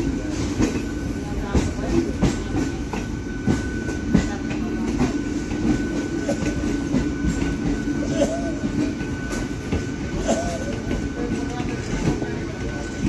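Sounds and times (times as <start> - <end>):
train running rumble and hum: 0.0 - 13.0
train wheels clicking over rail joints: 0.0 - 13.0.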